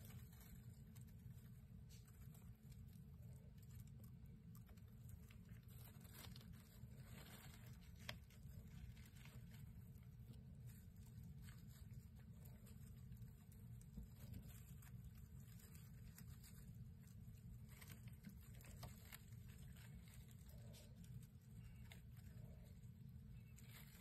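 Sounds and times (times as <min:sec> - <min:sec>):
low steady hum: 0:00.0 - 0:24.0
mice pattering and scratching: 0:00.0 - 0:24.0.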